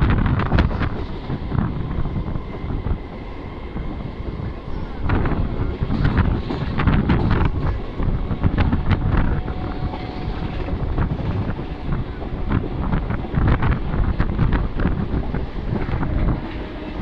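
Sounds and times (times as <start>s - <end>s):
low rumble of train running: 0.0s - 17.0s
wind buffeting microphone: 0.0s - 17.0s.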